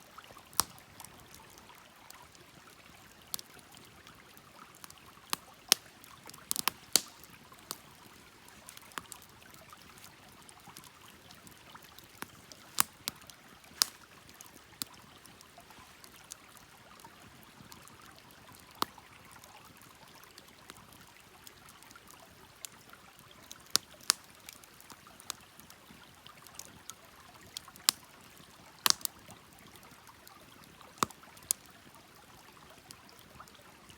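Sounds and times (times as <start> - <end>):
wood fire crackling: 0.2 - 19.0, 20.7 - 31.8.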